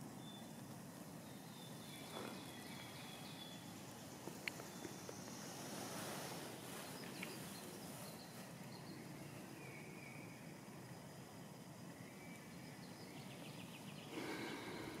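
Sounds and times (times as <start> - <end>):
faint open air hiss: 0.0 - 15.0.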